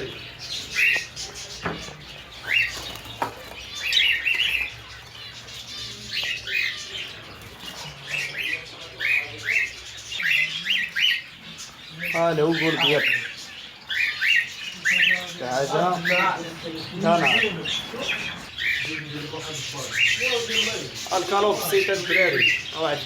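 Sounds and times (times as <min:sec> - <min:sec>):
pet birds chirping: 0:00.0 - 0:23.0.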